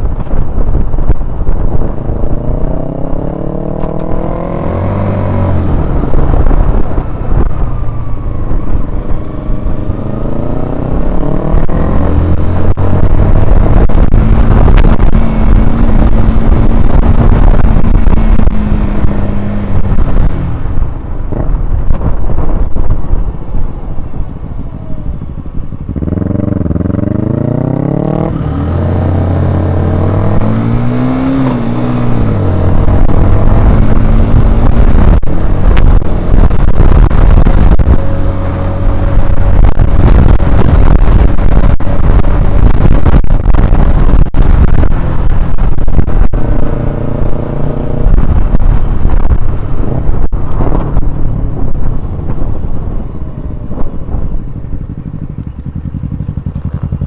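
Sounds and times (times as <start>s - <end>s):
motorcycle engine accelerating: 0.0s - 57.0s
wind rush: 0.0s - 57.0s.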